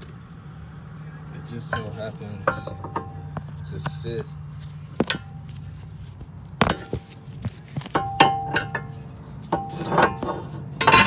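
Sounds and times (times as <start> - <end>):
metal tools clanking: 1.5 - 11.0.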